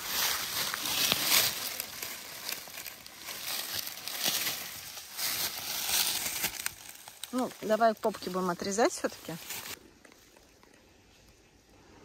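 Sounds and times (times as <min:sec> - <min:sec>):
dry leaves rustling and crackling: 0:00.0 - 0:10.8.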